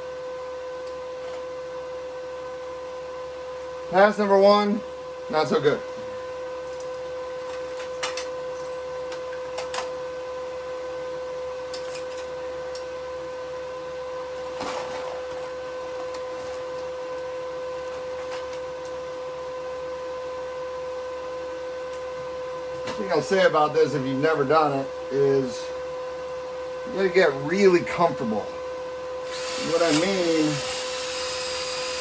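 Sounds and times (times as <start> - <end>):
welder electrical hum: 0.0 - 32.0.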